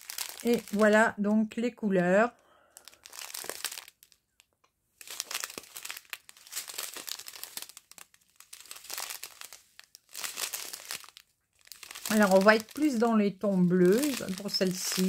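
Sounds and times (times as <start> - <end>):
plastic bags crinkling: 0.0 - 1.1, 2.6 - 4.4, 5.0 - 15.0.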